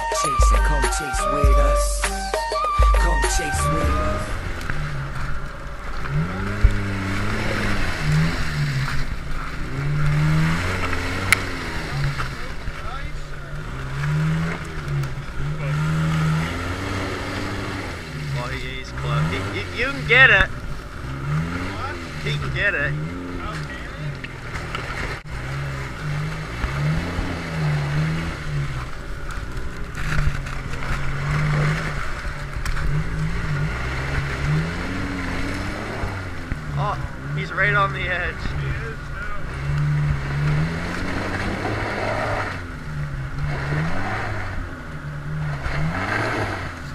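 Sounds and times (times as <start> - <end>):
engine revving: 0.0 - 46.9
tyres spinning in mud: 3.7 - 46.9.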